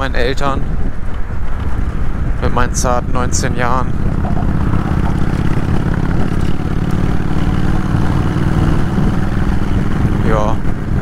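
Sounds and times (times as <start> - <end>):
motorcycle engine running: 0.8 - 11.0.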